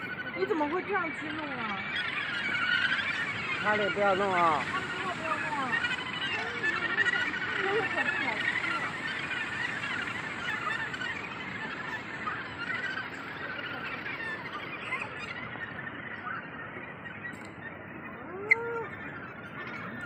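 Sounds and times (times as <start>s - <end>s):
seabird colony calling: 0.0s - 20.0s.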